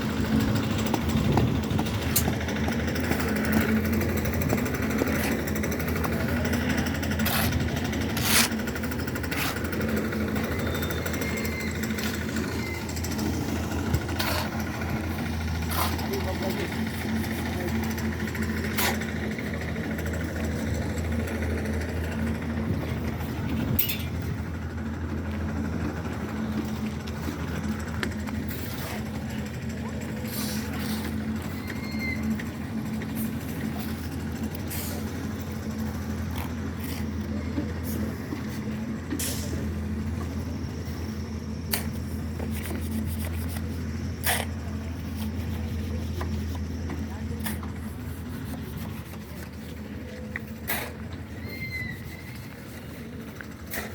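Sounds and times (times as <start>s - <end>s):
machinery engine humming: 0.0s - 53.9s.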